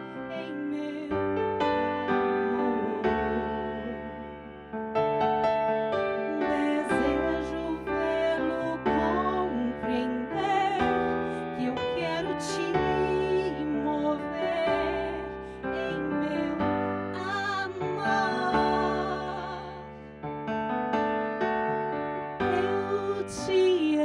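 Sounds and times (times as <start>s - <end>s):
woman singing into a microphone: 0.0s - 4.6s, 6.2s - 20.1s, 22.4s - 24.0s
keyboard accompaniment: 0.0s - 24.0s.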